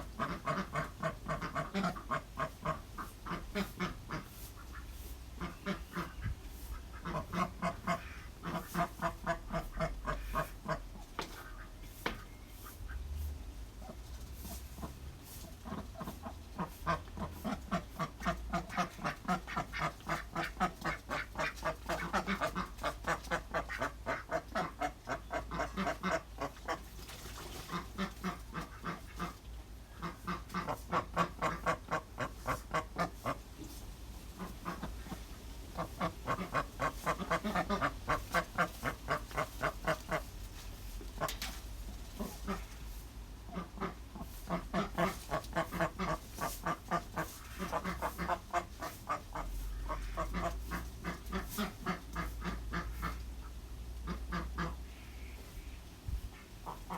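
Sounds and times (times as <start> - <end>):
ducks quacking: 0.0 - 56.9.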